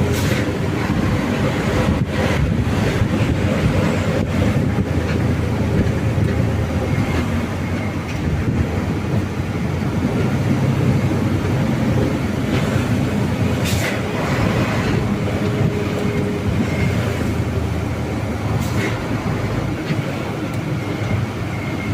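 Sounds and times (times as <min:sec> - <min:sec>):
diesel truck engine rumble: 0:00.0 - 0:21.9.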